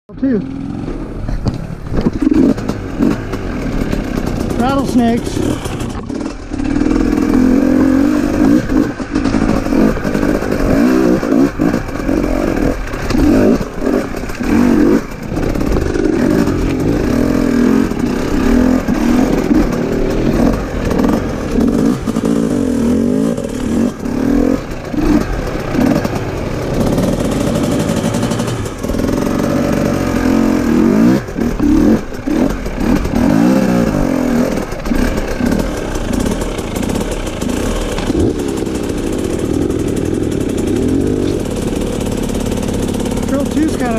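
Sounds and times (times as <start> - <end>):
motorcycle engine revving: 0.1 - 43.9
motorcycle clattering over rocks: 0.8 - 43.9.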